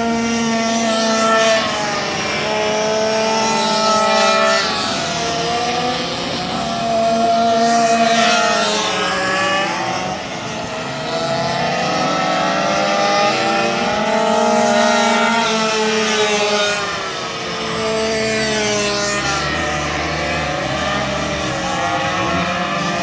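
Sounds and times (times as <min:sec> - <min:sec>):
minibike engines revving: 0:00.0 - 0:23.0.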